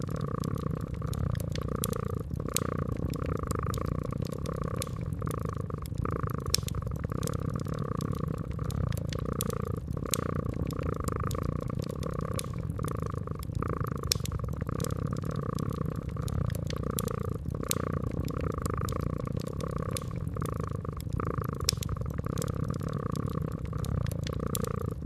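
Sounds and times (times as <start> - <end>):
cat purring: 0.0 - 25.0
wood fire crackling and popping: 0.0 - 25.0.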